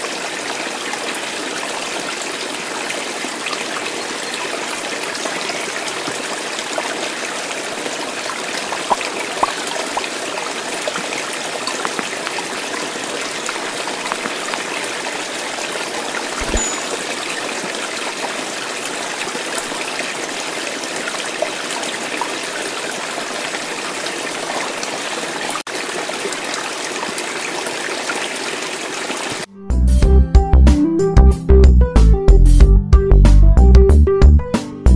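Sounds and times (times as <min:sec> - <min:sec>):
water babbling: 0:00.0 - 0:29.5.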